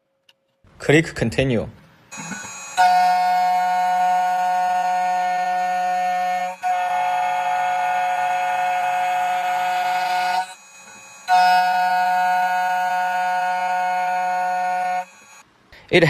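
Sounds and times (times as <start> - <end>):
key cutting machine whine: 2.1 - 15.4.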